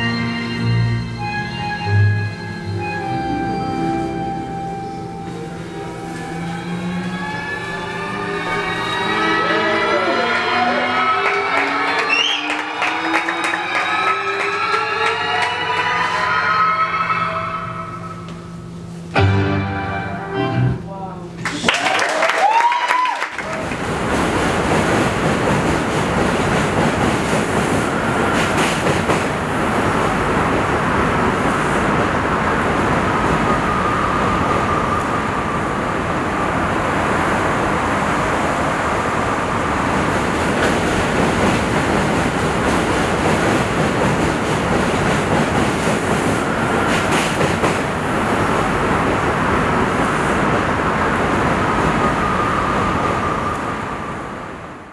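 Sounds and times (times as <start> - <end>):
subway train rumble: 0.0 - 54.9.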